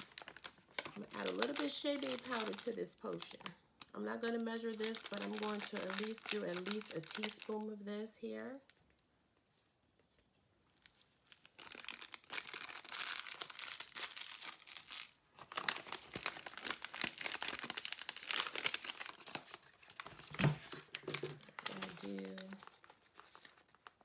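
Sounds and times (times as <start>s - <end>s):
plastic bags crinkling: 0.0s - 7.7s, 10.8s - 24.0s.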